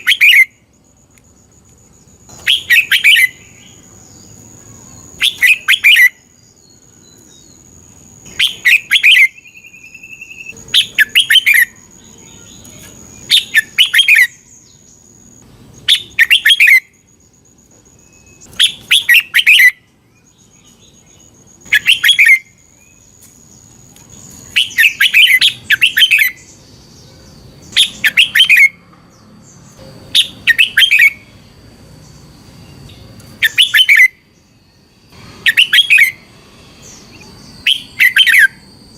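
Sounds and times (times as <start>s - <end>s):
bird singing warbled phrases: 0.0s - 0.8s, 1.9s - 38.9s.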